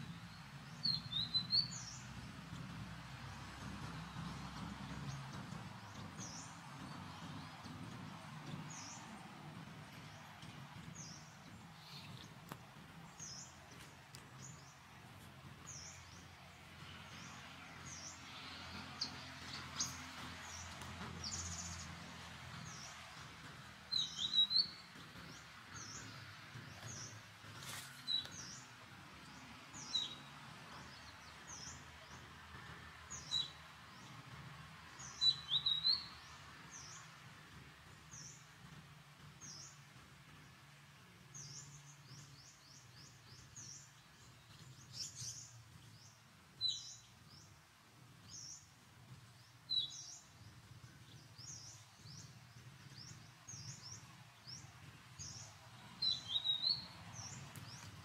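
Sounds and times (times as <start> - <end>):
small birds chirping: 0.0 - 2.8, 4.2 - 21.9, 22.5 - 32.4, 33.1 - 58.0.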